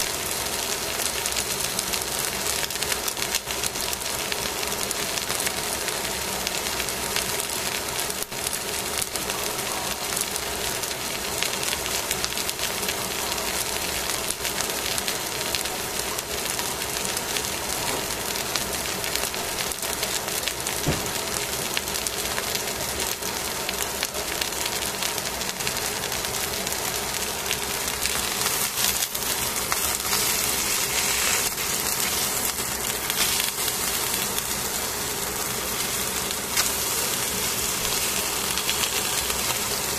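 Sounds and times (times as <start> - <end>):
fish sizzling in a pan: 0.0 - 39.9.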